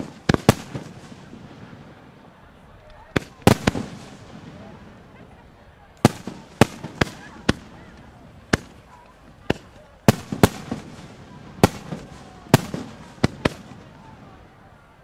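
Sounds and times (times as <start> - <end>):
fireworks bursting with sharp bangs: 0.0 - 14.6.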